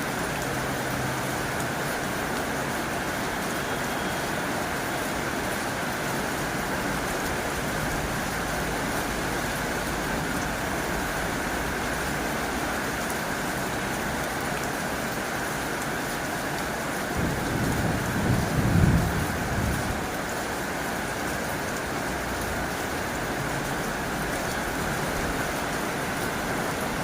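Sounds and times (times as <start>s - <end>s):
heavy rain on a tin roof: 0.0s - 27.0s.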